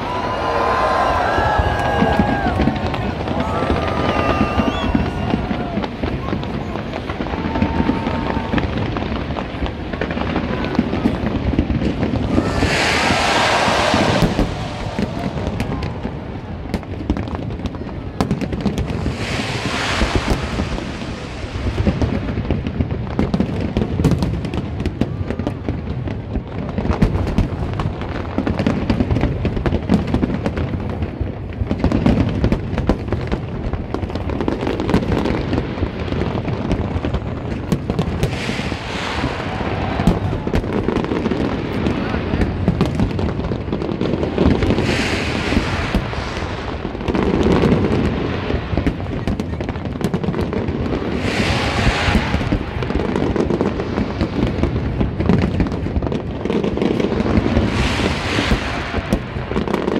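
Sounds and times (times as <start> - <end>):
fireworks booming and banging: 0.0 - 59.9
fireworks hissing crackle: 0.0 - 59.9.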